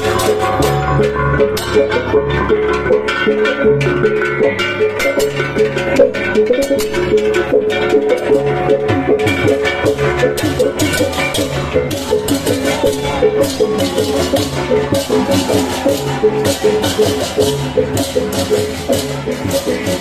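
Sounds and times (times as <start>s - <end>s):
gamelan music: 0.0s - 20.0s.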